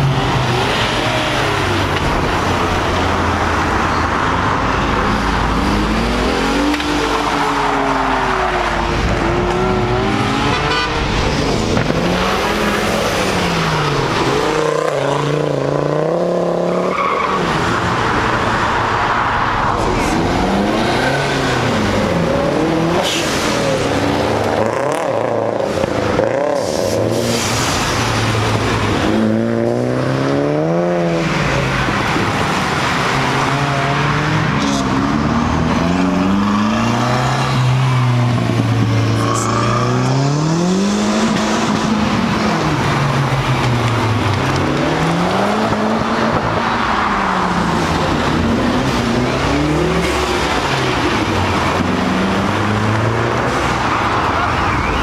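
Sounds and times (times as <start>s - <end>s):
car engines revving: 0.0s - 55.0s
crowd noise: 0.0s - 55.0s
road noise: 0.0s - 55.0s.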